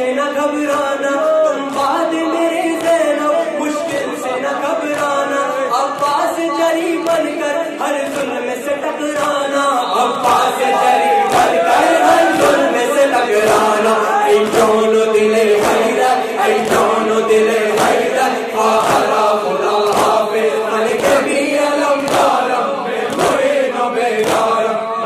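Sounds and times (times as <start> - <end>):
rhythmic chest-beating: 0.0 - 24.9
man singing lament into microphone: 0.0 - 25.0
crowd of men chanting: 0.1 - 25.0.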